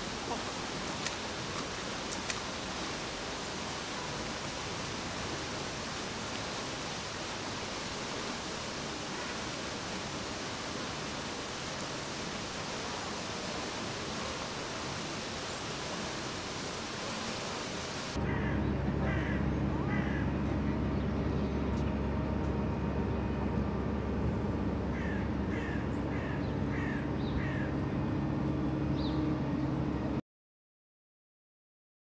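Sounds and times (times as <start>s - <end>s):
steady outdoor rushing noise: 0.0s - 30.2s.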